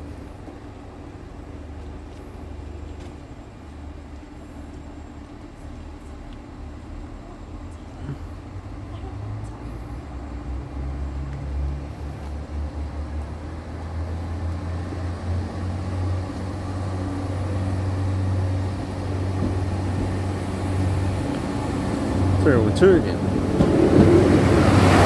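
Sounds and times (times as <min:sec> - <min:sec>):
train engine droning: 0:00.0 - 0:25.0.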